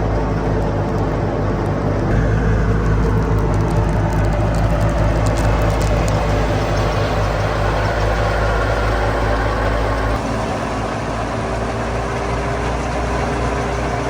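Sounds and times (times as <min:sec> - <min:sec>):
diesel engine hum: 0:00.0 - 0:14.0
harvesting machinery clatter: 0:00.0 - 0:14.0.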